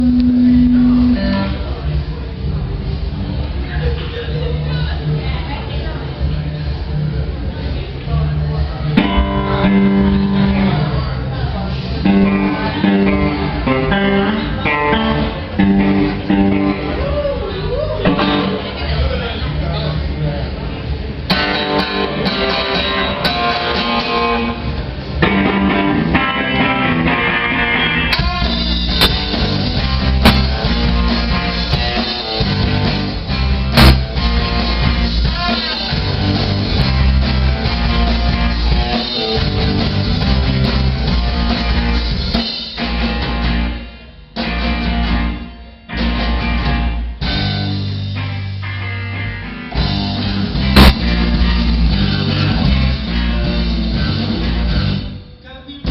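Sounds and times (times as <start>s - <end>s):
drum kit: 0.0s - 3.6s, 4.9s - 55.9s
guitar: 0.0s - 55.9s.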